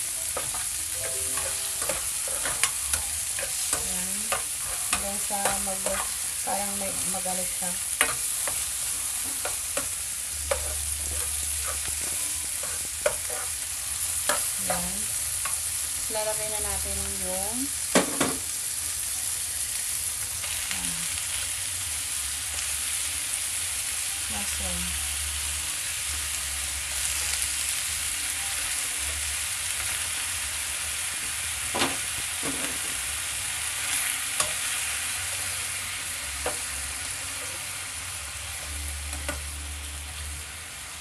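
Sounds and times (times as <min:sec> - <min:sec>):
food sizzling in a frying pan: 0:00.0 - 0:41.0.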